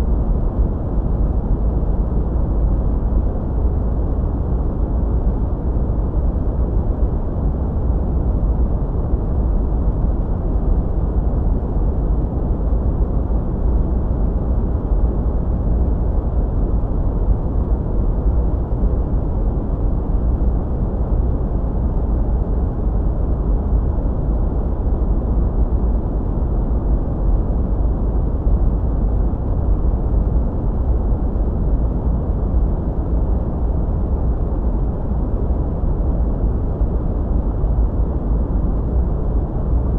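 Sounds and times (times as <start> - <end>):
muffled white noise hiss: 0.0 - 39.9.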